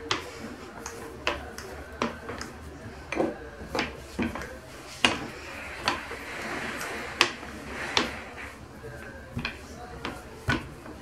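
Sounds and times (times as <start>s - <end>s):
rolling pin rolling dough: 0.0s - 11.0s.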